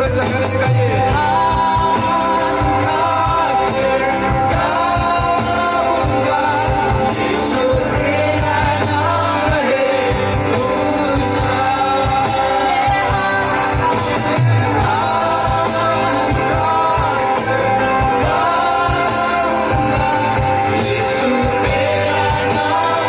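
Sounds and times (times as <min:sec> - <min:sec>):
band accompaniment with beat: 0:00.0 - 0:23.0
person singing worship song: 0:00.6 - 0:23.0.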